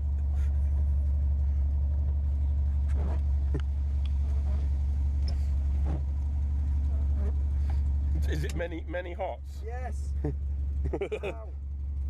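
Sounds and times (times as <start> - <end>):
engine idling with loud drone: 0.0 - 12.0.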